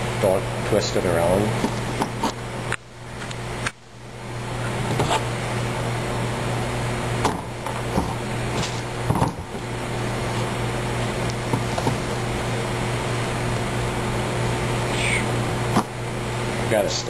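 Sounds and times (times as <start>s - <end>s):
ventilation hum: 0.0s - 17.0s.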